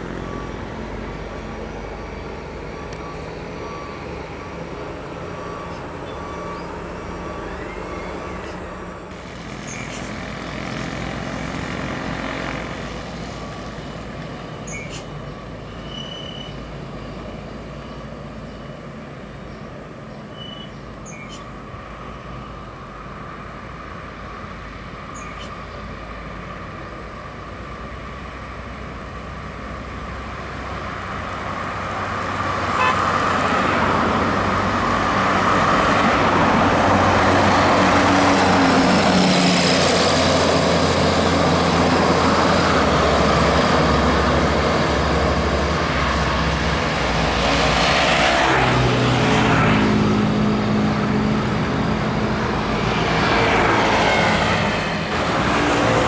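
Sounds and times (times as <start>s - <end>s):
bus approaching: 0.0s - 56.0s
highway traffic passing: 0.0s - 56.0s.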